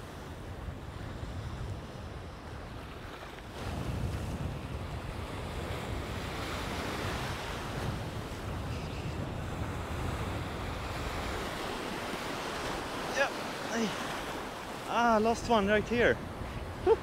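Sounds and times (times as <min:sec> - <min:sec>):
waves breaking in shallows: 0:00.0 - 0:17.0
wind buffeting microphone: 0:00.0 - 0:17.0.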